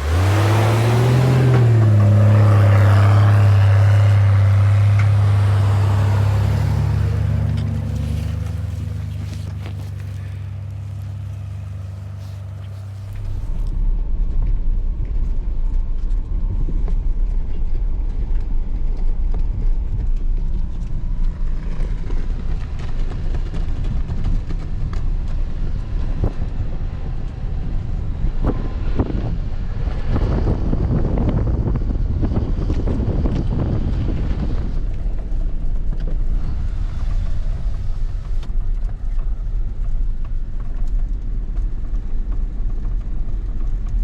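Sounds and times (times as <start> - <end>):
vehicle driving through deep snow: 0.0 - 44.0
vehicle engine humming: 0.0 - 44.0
wind on microphone: 0.0 - 44.0.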